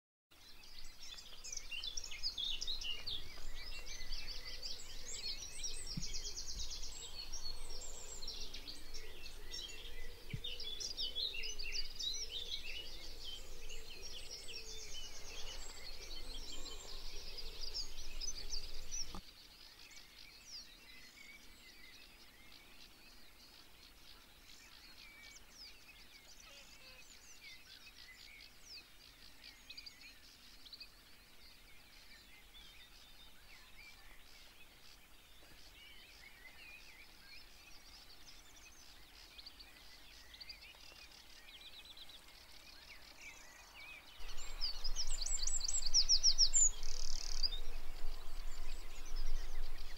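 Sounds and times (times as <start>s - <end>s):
songbirds singing and chirping: 0.3s - 49.9s.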